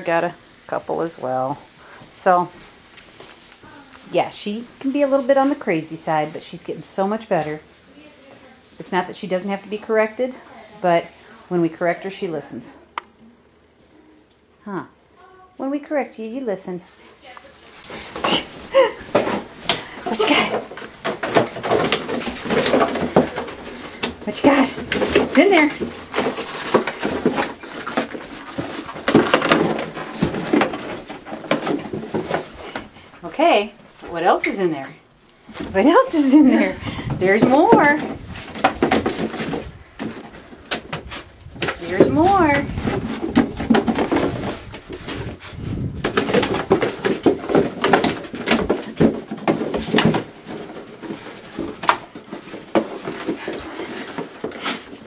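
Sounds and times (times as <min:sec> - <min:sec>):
animal rustling and scuffing: 0:00.0 - 0:12.6, 0:16.6 - 0:34.8, 0:35.4 - 0:55.0.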